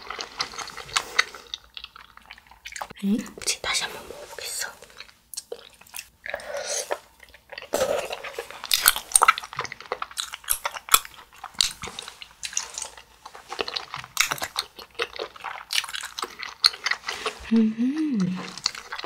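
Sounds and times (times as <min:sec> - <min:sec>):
person chewing: 0:00.0 - 0:03.0, 0:04.8 - 0:19.0.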